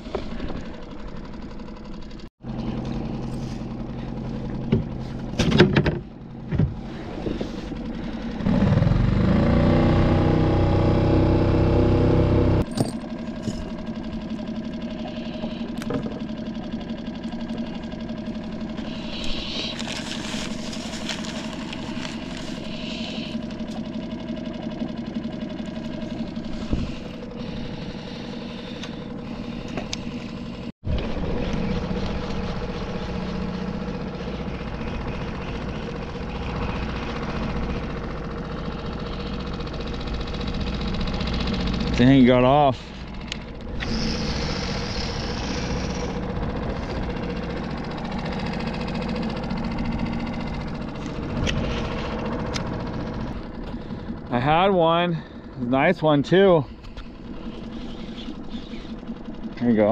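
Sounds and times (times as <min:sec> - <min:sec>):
outboard motor revving and idling: 0:00.0 - 0:59.9.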